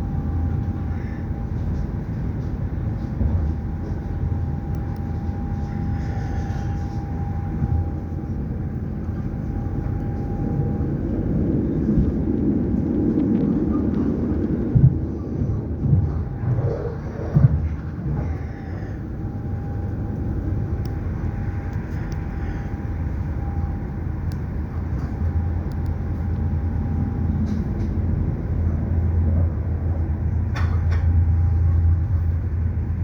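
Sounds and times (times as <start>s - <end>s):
faint steady whine: 0.0s - 33.0s
train rumbling on track: 0.0s - 33.0s.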